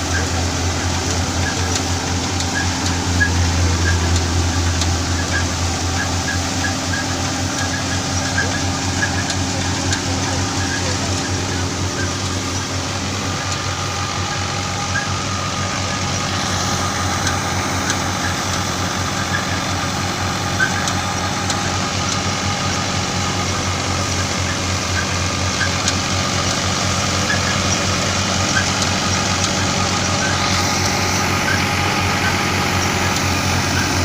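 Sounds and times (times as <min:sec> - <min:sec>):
thresher running: 0:00.0 - 0:34.0
tractor engine running: 0:00.0 - 0:34.0.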